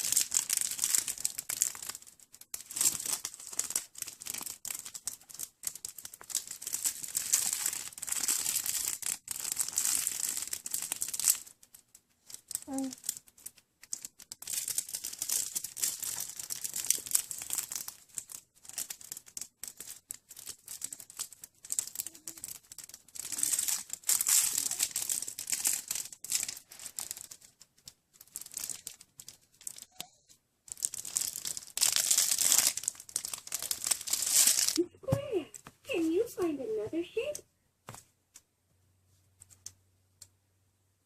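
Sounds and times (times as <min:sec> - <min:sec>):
crinkly material rustling: 0:00.0 - 0:38.4.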